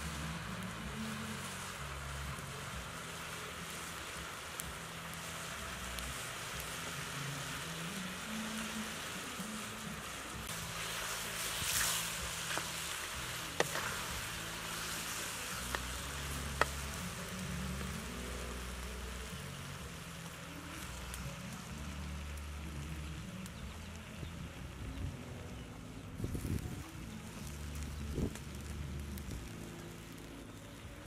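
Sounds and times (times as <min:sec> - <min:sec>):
vegetables sizzling in a wok: 0:00.0 - 0:31.0.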